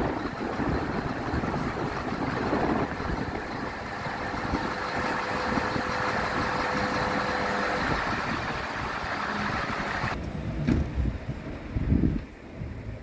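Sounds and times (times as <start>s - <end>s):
hydraulic crane moving: 0.0s - 11.0s
diesel engine running: 0.0s - 13.0s.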